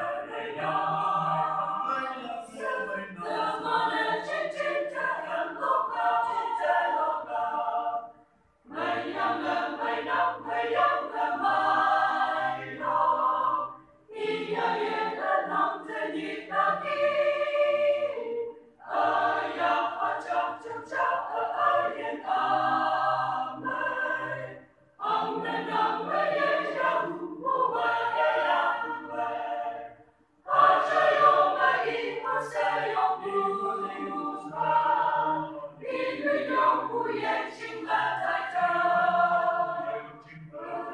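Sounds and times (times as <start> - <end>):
choir singing unaccompanied: 0.0 - 40.9.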